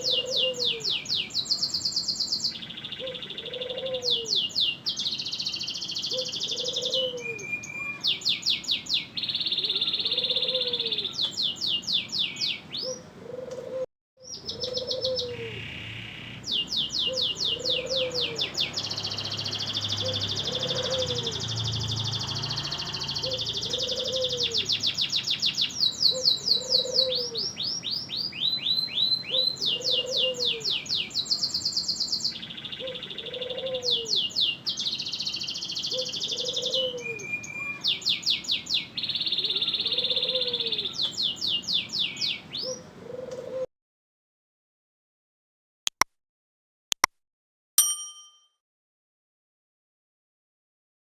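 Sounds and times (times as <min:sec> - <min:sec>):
canary singing trills: 0:00.0 - 0:13.1, 0:14.2 - 0:43.0.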